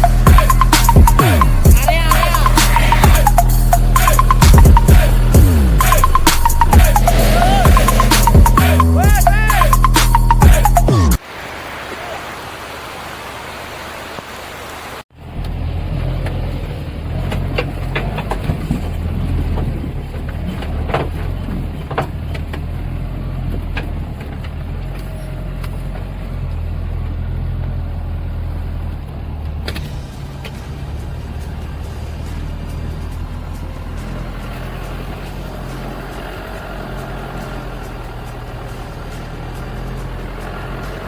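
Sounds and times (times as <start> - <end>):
vehicle engine low drone: 0.0 - 11.2, 15.1 - 41.0.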